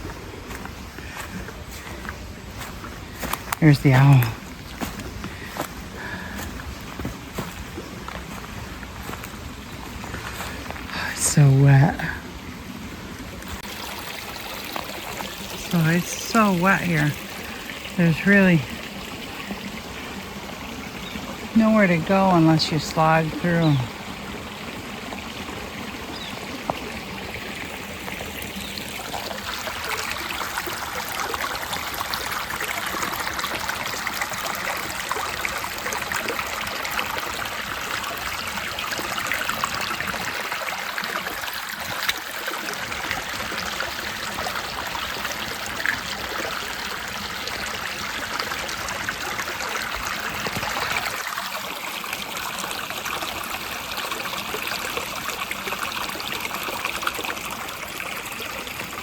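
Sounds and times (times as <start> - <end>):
creek water running: 0.0 - 59.0.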